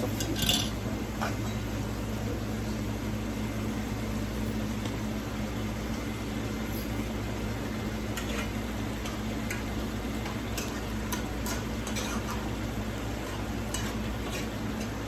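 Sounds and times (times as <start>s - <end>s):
food frying in a wok: 0.0s - 15.0s.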